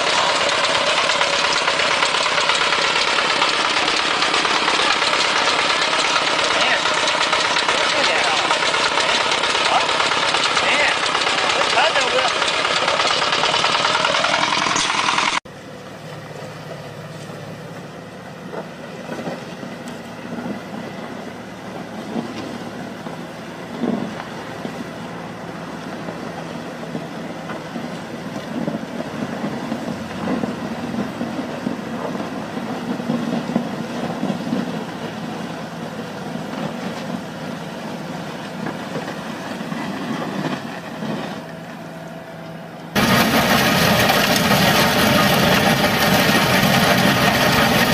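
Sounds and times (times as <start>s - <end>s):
diesel loader engine: 0.0s - 47.9s
walking tractor engine: 0.0s - 47.9s.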